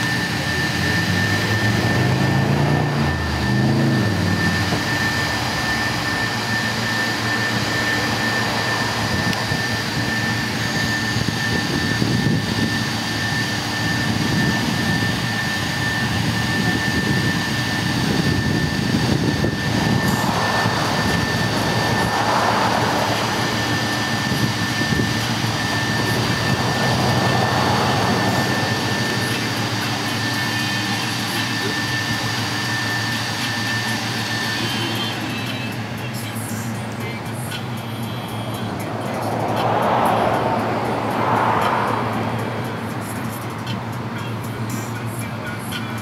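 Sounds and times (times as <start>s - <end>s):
mechanical drone with high whine: 0.0s - 46.0s.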